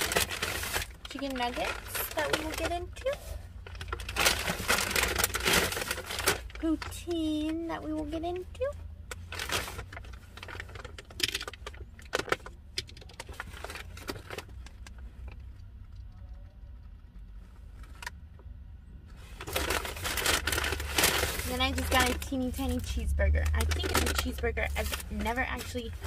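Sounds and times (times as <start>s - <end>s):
paper and wrappers rustling: 0.0s - 8.4s, 9.2s - 15.2s, 19.2s - 26.0s.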